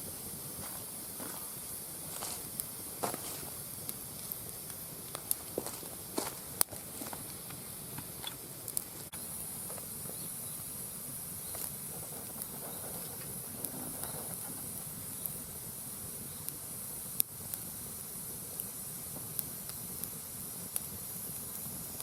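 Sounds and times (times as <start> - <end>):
fire hissing: 0.0 - 22.0
fire popping and crackling: 0.0 - 22.0.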